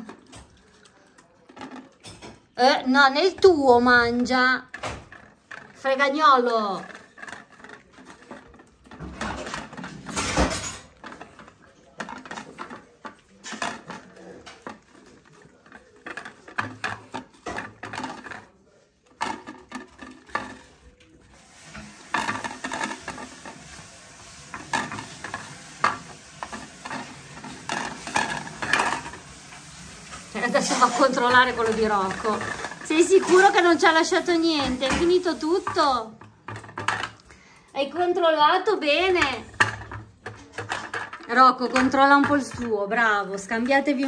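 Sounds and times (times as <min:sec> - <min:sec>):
plates clattering on stone floor: 0:00.0 - 0:37.6, 0:38.8 - 0:44.0.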